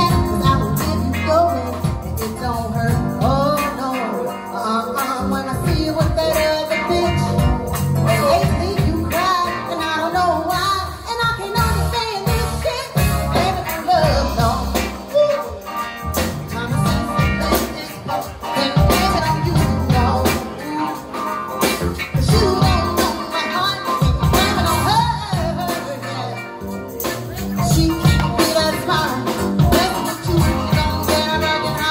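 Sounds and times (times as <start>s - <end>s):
live soul band playing: 0.0s - 31.9s
woman singing lead: 0.0s - 31.9s.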